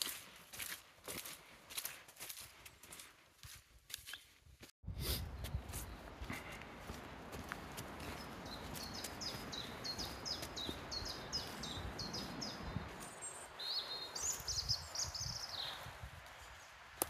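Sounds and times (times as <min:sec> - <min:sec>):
footsteps on muddy path: 0:00.0 - 0:15.0.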